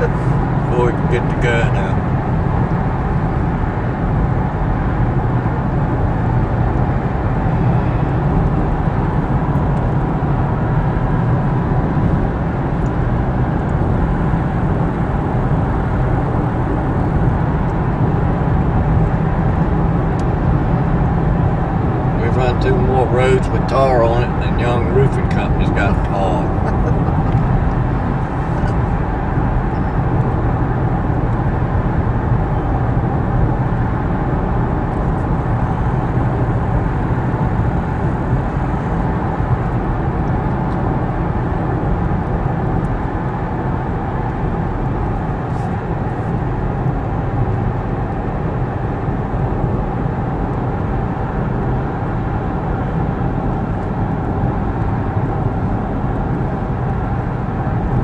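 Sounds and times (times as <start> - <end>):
car cabin road and engine noise: 0.0 - 58.0.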